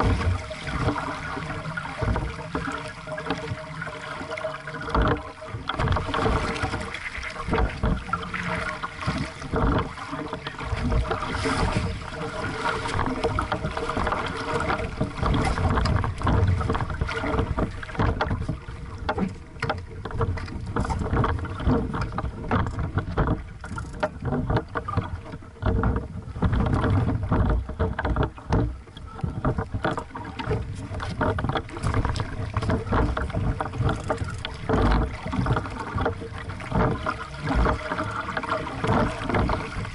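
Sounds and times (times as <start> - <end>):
wind rumbling on microphone: 0.0 - 3.6, 4.9 - 39.9
water slapping against a hull: 0.0 - 39.9.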